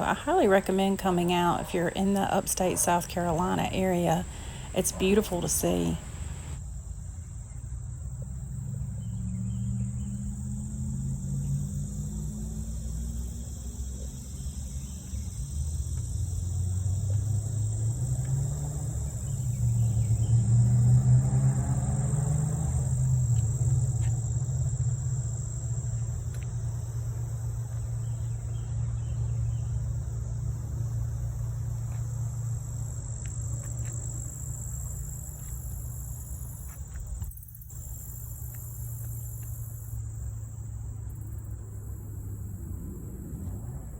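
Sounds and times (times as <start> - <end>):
high-pitched insect chorus: 0.0 - 43.9
passing motor vehicle rumble: 0.0 - 43.9.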